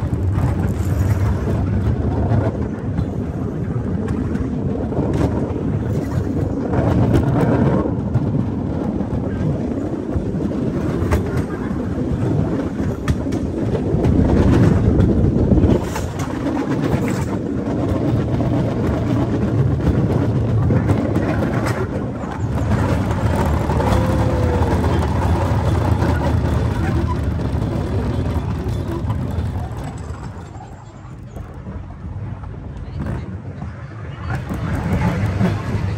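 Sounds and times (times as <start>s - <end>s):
rail cart wheels rumbling on rails: 0.0s - 35.9s.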